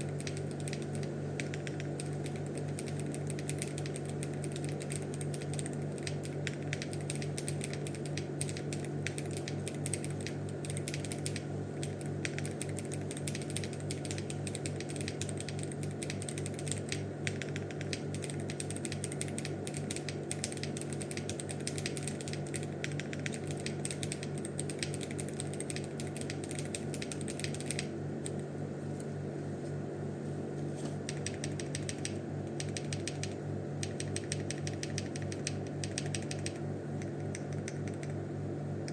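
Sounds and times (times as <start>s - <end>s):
mechanical keyboard typing: 0.0s - 28.4s, 31.1s - 38.2s
steady low hum: 0.0s - 38.9s.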